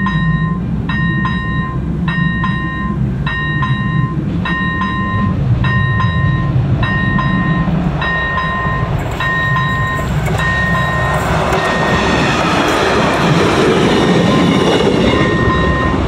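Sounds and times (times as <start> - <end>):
diesel railcar rumble: 0.0 - 16.0
level-crossing bell ringing: 0.0 - 16.0.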